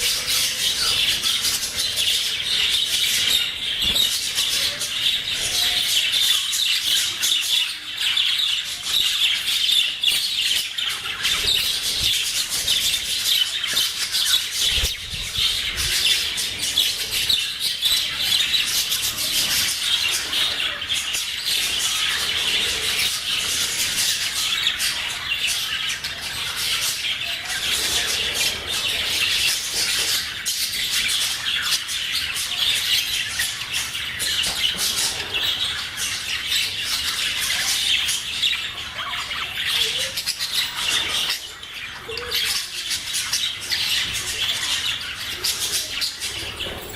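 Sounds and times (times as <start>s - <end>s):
budgies chattering and squawking: 0.0s - 46.9s.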